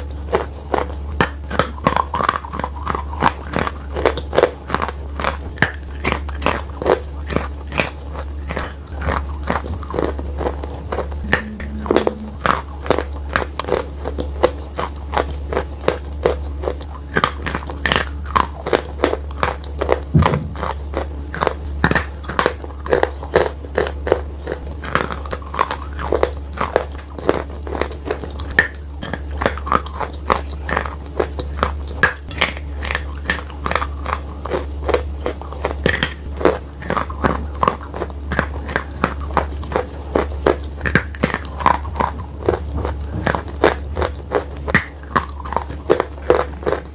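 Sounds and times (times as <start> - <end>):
crisp chewing crunches: 0.0 - 46.9
steady low hum: 0.0 - 46.9.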